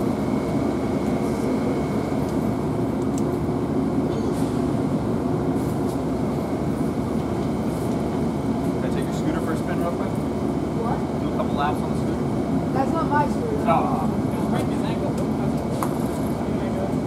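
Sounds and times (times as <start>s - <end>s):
train equipment low rumble: 0.0s - 17.0s.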